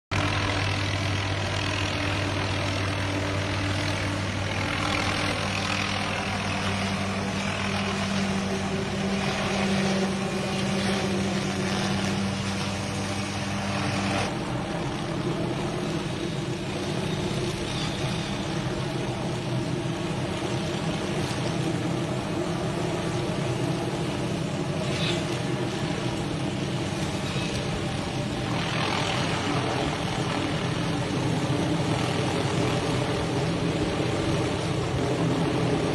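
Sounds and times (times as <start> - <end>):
engine running: 0.1 - 35.9.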